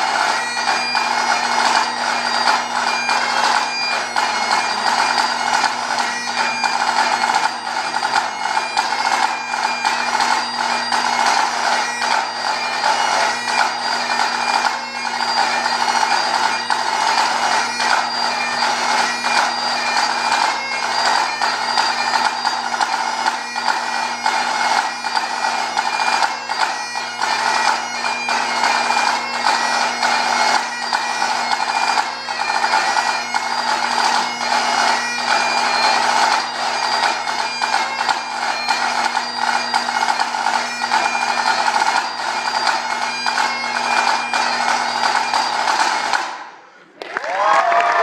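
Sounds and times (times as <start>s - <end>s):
bagpipe playing a tune: 0.0s - 46.6s
snare drum rapid strokes: 0.0s - 46.6s.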